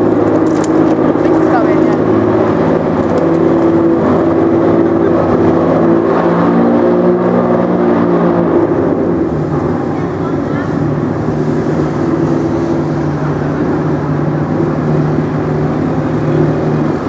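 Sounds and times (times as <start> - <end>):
car engine idling loudly: 0.0 - 6.3, 7.2 - 17.0.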